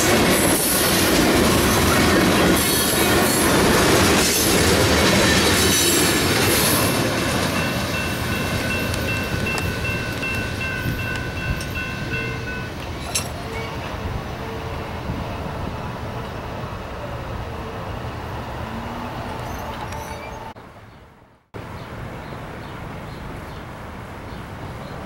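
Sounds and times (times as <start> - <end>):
freight train wheels rumbling: 0.0 - 20.6.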